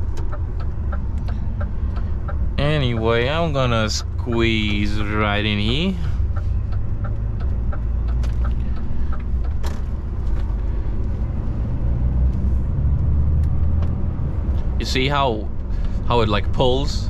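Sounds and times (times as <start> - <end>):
faint regular ticking: 0.0 - 16.8
truck diesel engine rumble: 0.0 - 17.0.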